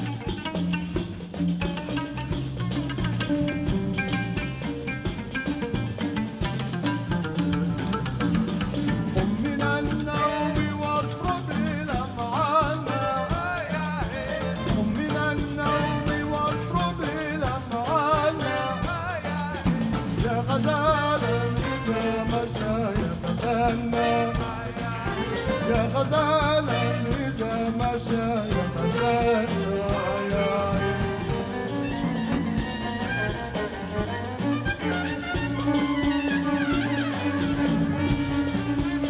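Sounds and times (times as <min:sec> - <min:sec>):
bass: 0:00.0 - 0:39.0
drum kit: 0:00.0 - 0:39.0
trumpet and reeds melody: 0:02.0 - 0:39.0.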